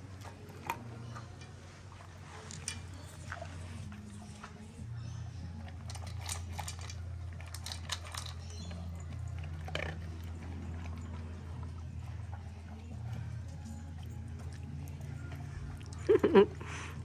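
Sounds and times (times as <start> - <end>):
dog chewing and crunching: 0.0 - 17.0.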